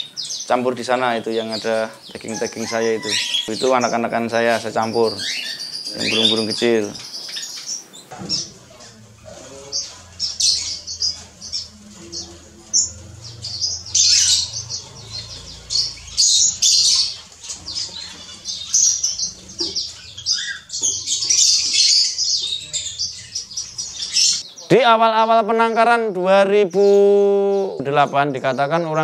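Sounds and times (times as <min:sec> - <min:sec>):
finches chirping and twittering: 0:00.0 - 0:24.7.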